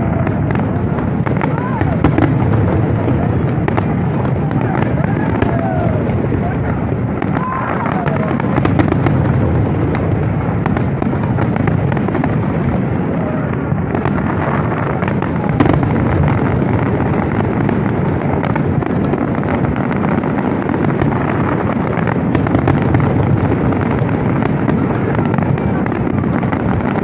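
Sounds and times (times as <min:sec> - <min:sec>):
fireworks booming: 0:00.0 - 0:27.0
fireworks crackling: 0:00.0 - 0:27.0.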